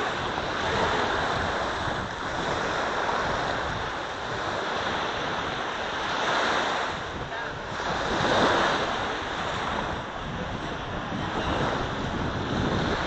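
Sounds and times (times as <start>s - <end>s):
small waves breaking on sand: 0.0s - 13.0s
wind rumbling on microphone: 0.0s - 13.0s.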